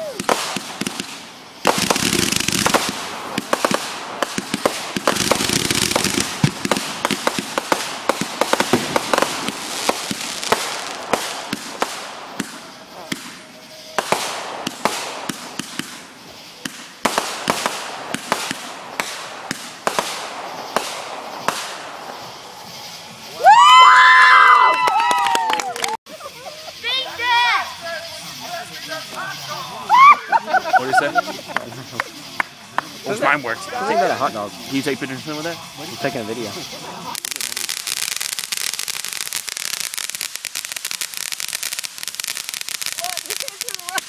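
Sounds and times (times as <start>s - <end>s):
loud hissing bursts: 0.0s - 24.4s, 26.2s - 44.0s
fireworks cracking and popping: 0.0s - 44.0s.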